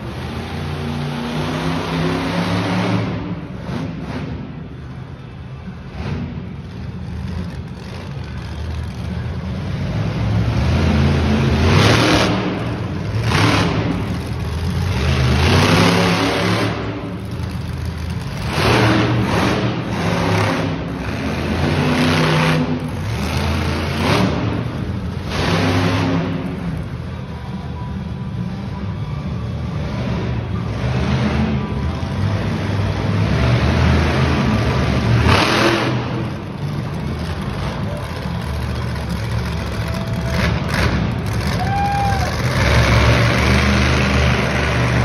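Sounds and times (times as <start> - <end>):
monster truck engine revving: 0.0 - 45.0.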